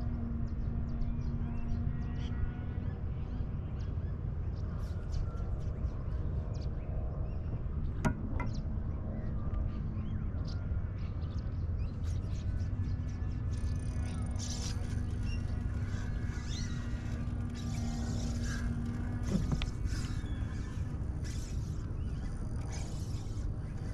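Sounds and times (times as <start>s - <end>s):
wind and water rumble: 0.0s - 23.9s.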